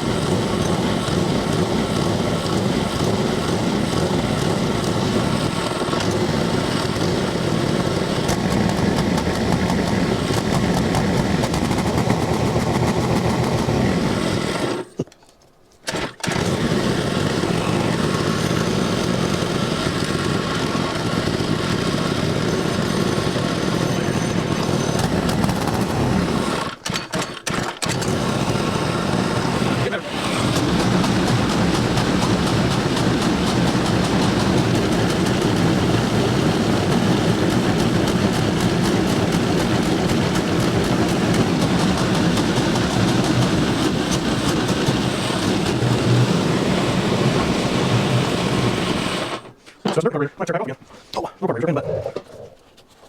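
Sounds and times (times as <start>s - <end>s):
go-kart engine running: 0.0s - 14.9s, 15.9s - 49.5s.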